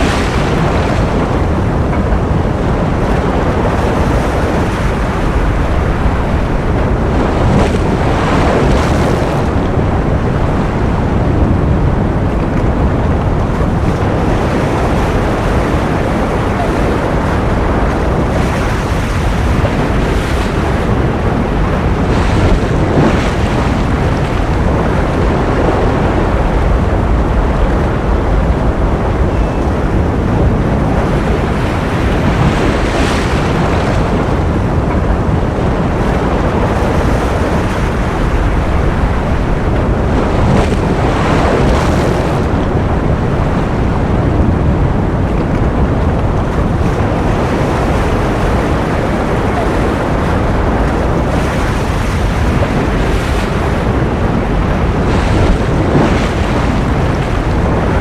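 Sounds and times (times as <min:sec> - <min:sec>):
ocean surf: 0:00.0 - 0:58.0.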